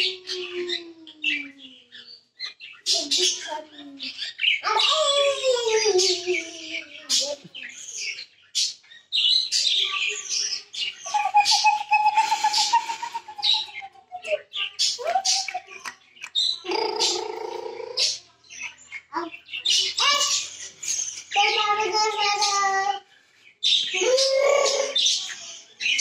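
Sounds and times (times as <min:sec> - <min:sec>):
budgerigar chicks chirping and squawking: 0:00.0 - 0:26.0.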